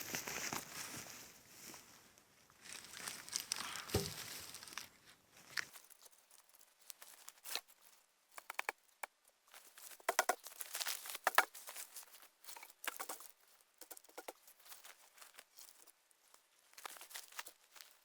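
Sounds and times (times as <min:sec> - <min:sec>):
dry branches rustling and crackling: 0:00.0 - 0:02.0, 0:02.6 - 0:08.6, 0:09.5 - 0:18.0.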